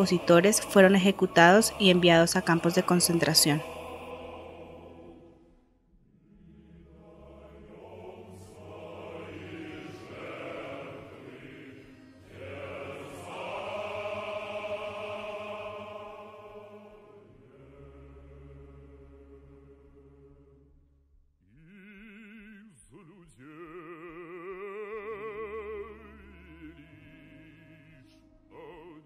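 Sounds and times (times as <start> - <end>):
choir singing slow chords: 0.0 - 29.0.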